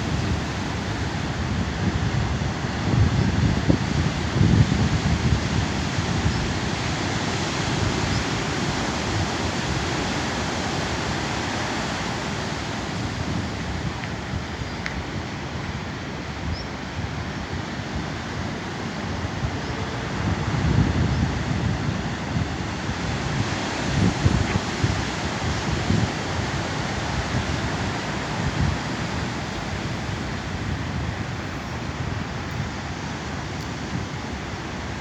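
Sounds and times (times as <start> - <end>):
sea surf washing on shore: 0.0 - 35.0
wind buffeting microphone: 0.0 - 35.0.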